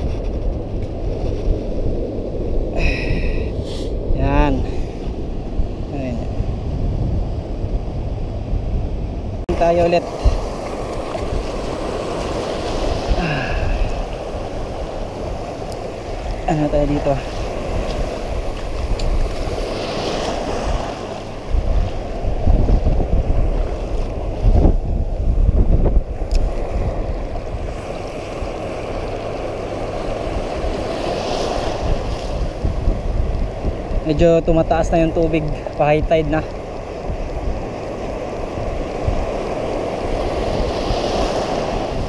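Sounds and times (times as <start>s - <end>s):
shallow surf breaking: 0.0s - 42.0s
wind on microphone: 0.0s - 42.0s.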